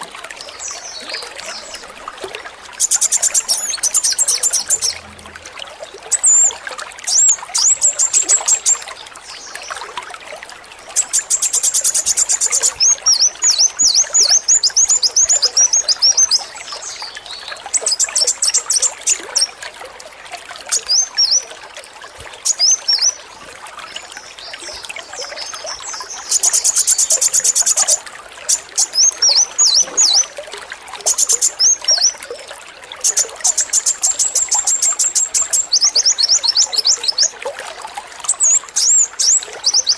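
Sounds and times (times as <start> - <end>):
bird song trills and chirps: 0.0 - 19.7, 20.6 - 39.9
trickling water: 0.0 - 39.9.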